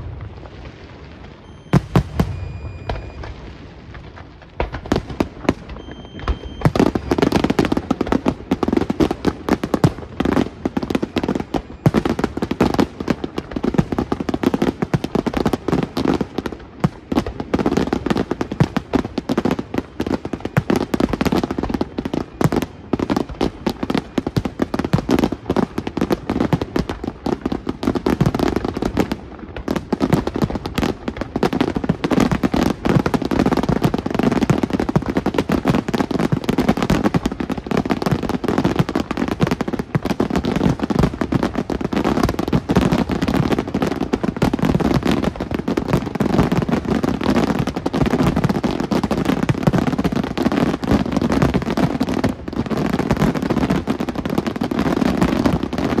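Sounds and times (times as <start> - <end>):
fireworks bangs: 0.0 - 56.0
fireworks crackle: 0.0 - 56.0.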